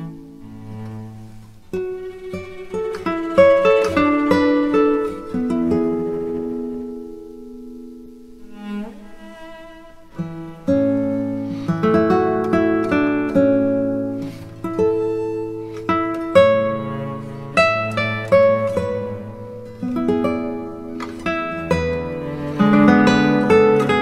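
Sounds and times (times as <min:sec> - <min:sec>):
acoustic guitar melody: 0:00.0 - 0:24.0.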